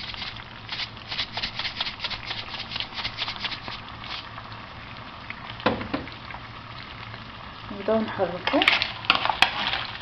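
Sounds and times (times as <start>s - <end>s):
seafood sizzling in frying pan: 0.0s - 10.0s.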